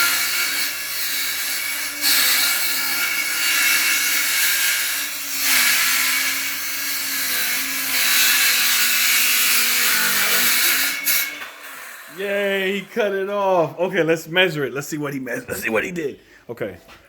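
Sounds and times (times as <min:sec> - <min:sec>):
circular saw cutting wood: 0:00.0 - 0:13.9.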